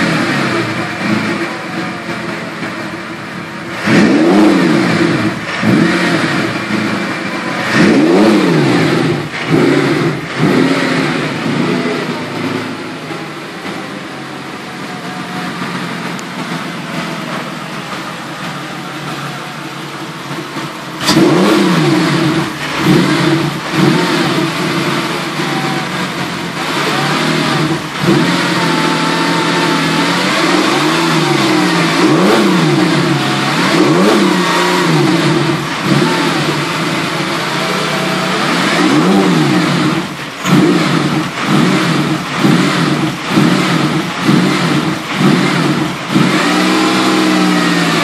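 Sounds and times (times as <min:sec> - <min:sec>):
engine revving and idling: 0:00.0 - 0:48.0.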